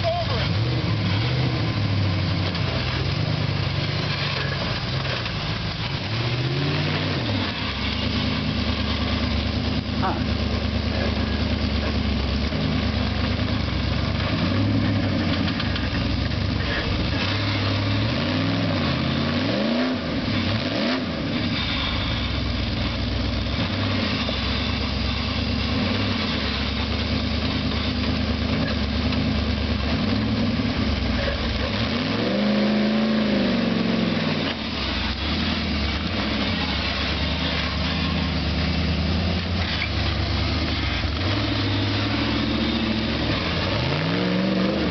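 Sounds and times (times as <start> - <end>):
buggy engine revving: 0.0 - 44.9.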